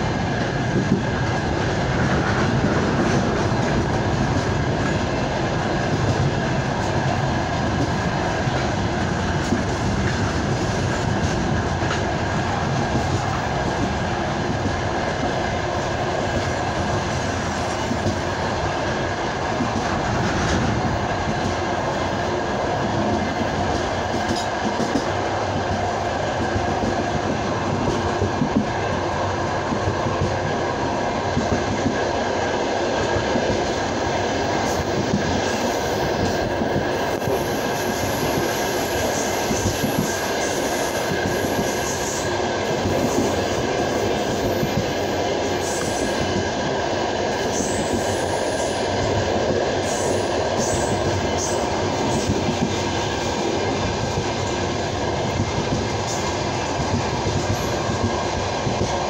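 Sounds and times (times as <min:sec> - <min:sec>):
rail joint clicks: 0:00.0 - 0:59.0
train wheel rumble: 0:00.0 - 0:59.0.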